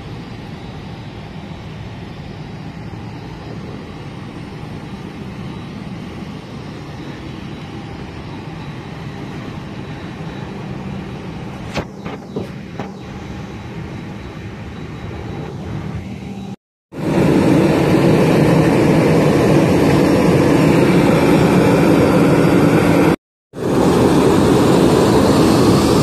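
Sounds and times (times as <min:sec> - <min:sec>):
jet engines rushing: 0:00.0 - 0:26.0
cabin hum: 0:00.8 - 0:26.0.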